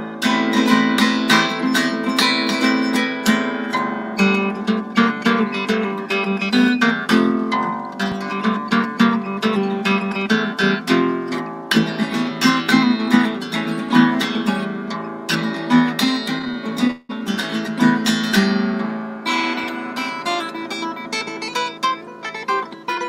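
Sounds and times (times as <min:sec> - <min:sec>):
fingerpicked harp guitar: 0:00.0 - 0:23.0.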